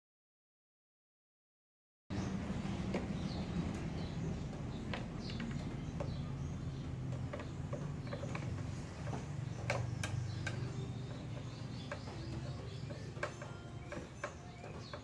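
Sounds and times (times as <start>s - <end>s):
plastic parts and wires clicking: 2.8s - 15.0s.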